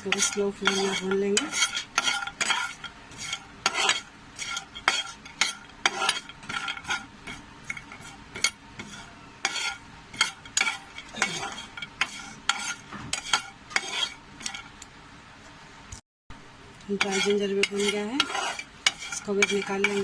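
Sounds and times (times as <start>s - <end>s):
ginger scraping in a dry pan: 0.0s - 14.7s, 17.0s - 20.0s.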